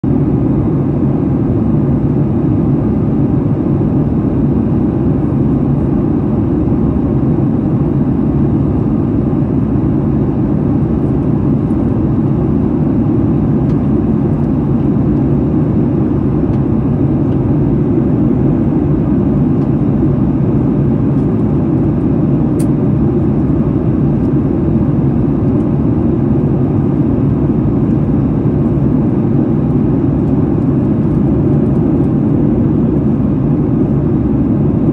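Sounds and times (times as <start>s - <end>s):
jet airliner cabin drone: 0.0s - 34.9s.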